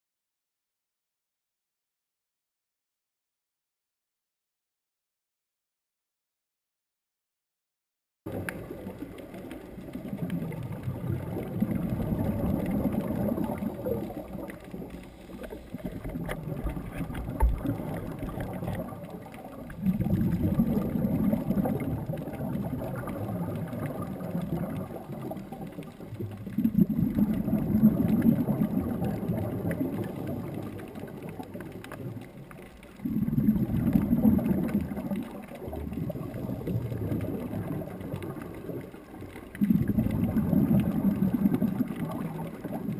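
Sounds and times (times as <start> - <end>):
exhaled bubbles rumbling: 8.3 - 42.9.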